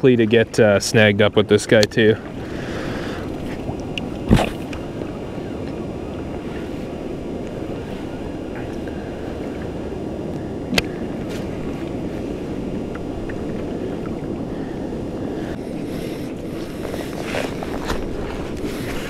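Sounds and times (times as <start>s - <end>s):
wind buffeting microphone: 0.0s - 19.0s
water lapping at kayak: 0.2s - 19.0s.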